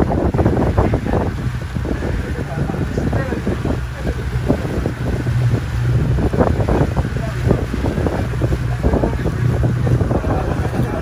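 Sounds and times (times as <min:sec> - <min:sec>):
motor droning: 0:00.0 - 0:11.0
wind buffeting microphone: 0:00.0 - 0:11.0.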